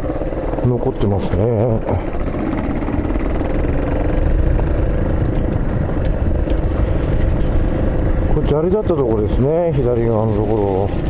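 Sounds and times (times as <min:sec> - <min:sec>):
engine running low rumble: 0:00.0 - 0:11.0.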